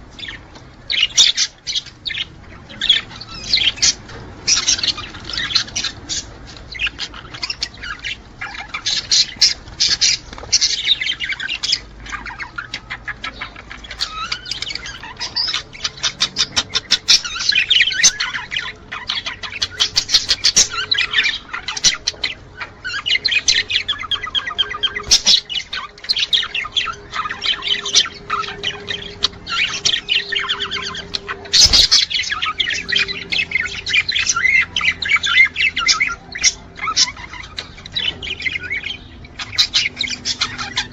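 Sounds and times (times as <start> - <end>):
budgerigars chattering and warbling: 0.0 - 40.9
faint steady hum: 0.0 - 40.9
harsh squawks: 2.7 - 40.9.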